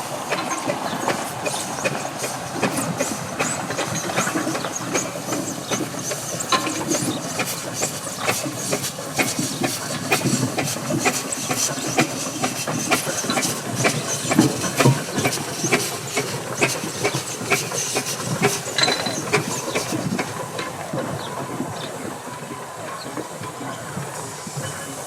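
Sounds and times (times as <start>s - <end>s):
steam hiss: 0.0s - 22.4s.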